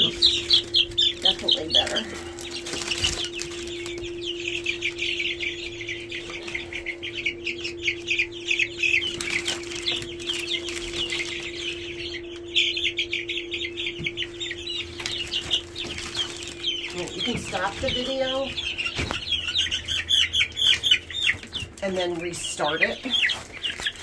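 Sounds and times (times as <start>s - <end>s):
chicks peeping: 0.0s - 24.0s
steady low hum: 0.0s - 24.0s.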